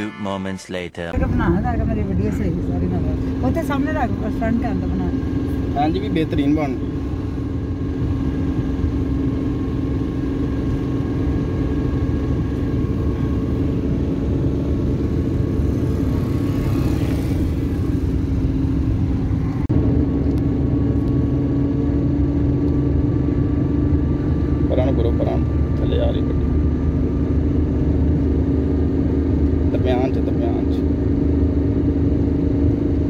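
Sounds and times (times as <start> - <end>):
car engine and road rumble: 0.7 - 33.0.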